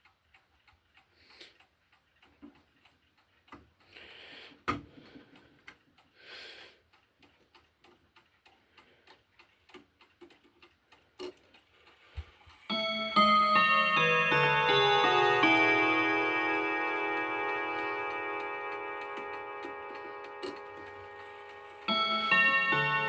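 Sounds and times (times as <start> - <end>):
clock ticking: 0.0 - 23.0.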